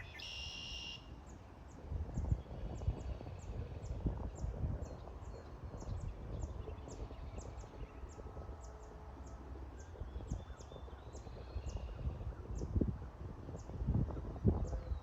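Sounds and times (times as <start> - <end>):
low outdoor rumble: 1.2 - 15.0.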